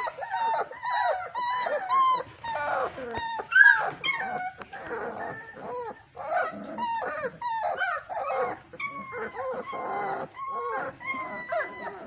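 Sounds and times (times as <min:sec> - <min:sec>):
puppies whining and yelping: 0:00.0 - 0:12.0.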